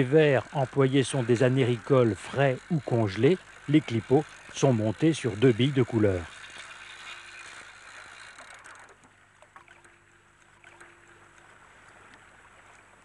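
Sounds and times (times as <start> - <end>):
faint water lapping: 0.0 - 13.0
steady low hum: 0.0 - 13.0.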